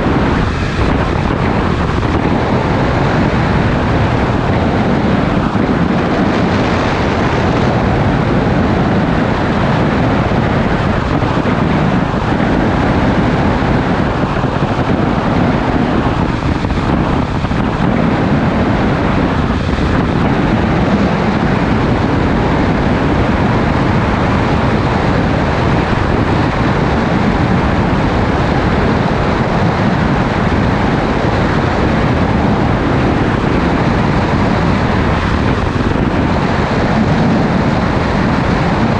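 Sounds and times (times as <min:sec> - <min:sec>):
wind rushing across microphone: 0:00.0 - 0:38.9.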